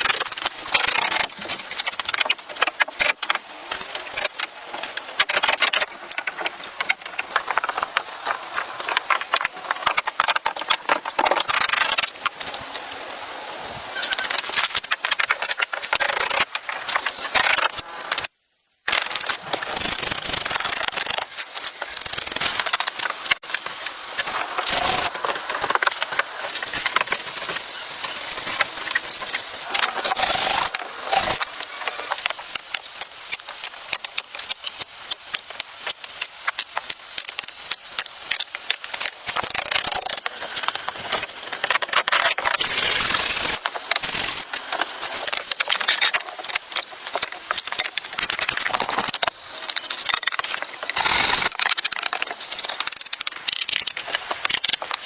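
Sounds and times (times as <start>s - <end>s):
wood scraping and crackling: 0.0s - 13.0s, 13.9s - 18.3s, 18.9s - 55.0s.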